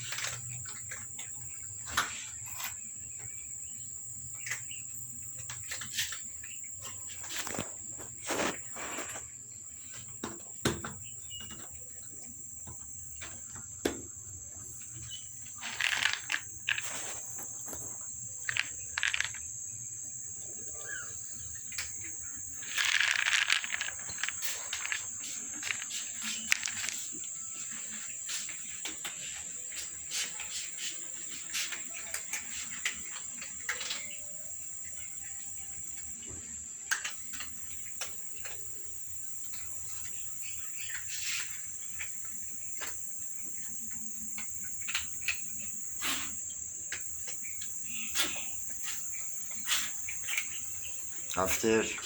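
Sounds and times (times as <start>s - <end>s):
crickets chirring: 0.0s - 52.0s.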